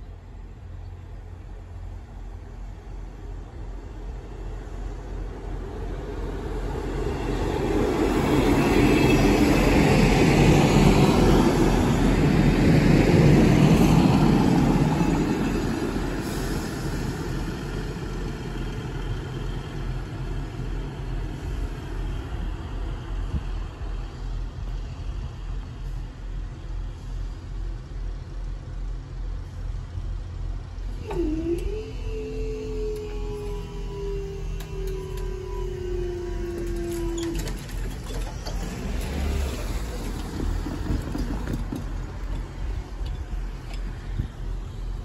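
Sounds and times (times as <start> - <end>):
diesel train passing: 0.0 - 31.1, 31.8 - 45.0.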